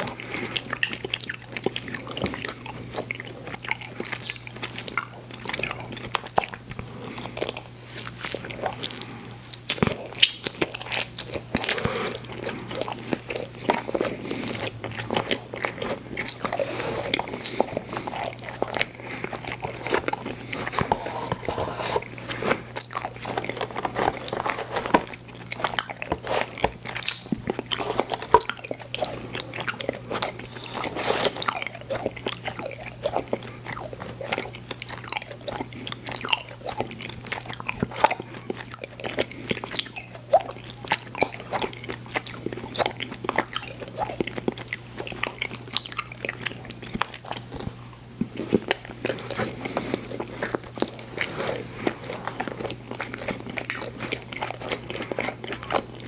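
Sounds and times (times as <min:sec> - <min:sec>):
chewing candy with crisp crackles: 0:00.0 - 0:56.0.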